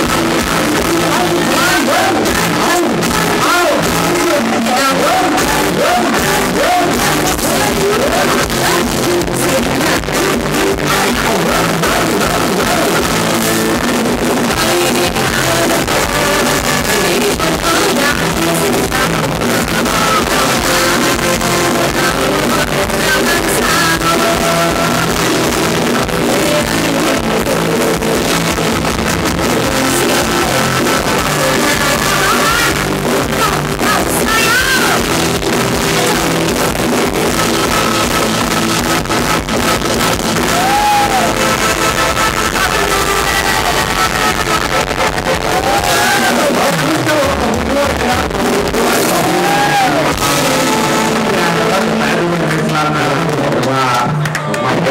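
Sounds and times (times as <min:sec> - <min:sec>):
electric guitar: 0:00.0 - 0:54.9
live band dance music: 0:00.0 - 0:54.9
person singing into microphone: 0:00.0 - 0:54.9.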